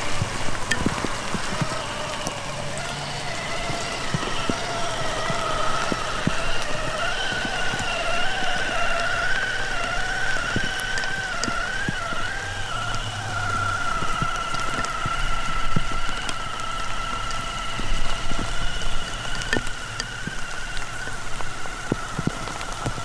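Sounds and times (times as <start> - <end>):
electric motor whine: 0.0 - 23.0
small clicks: 0.0 - 23.0.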